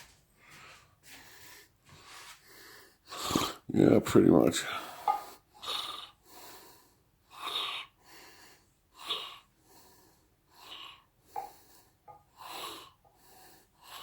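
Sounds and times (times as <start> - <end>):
person breathing: 0.4 - 3.6, 4.6 - 14.0.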